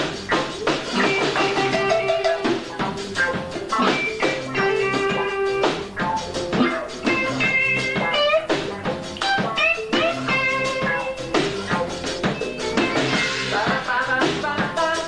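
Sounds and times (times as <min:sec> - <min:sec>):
electric guitar lines: 0:00.0 - 0:13.7
bass guitar: 0:00.0 - 0:15.0
drum kit: 0:00.0 - 0:15.0.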